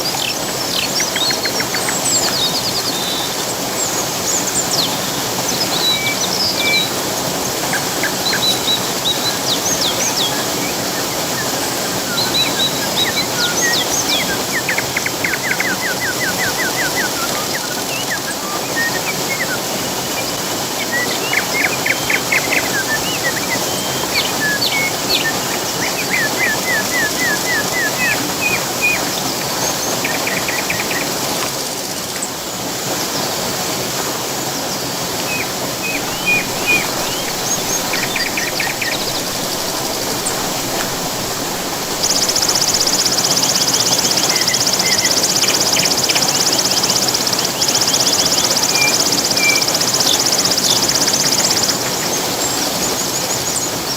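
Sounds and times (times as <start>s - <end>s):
songbirds chirping and trilling: 0.0s - 32.5s, 34.7s - 53.9s
rush of falling water: 0.0s - 53.9s.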